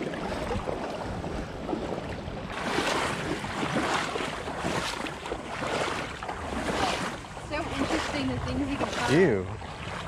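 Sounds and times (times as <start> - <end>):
water splashing around wading legs: 0.0 - 10.0.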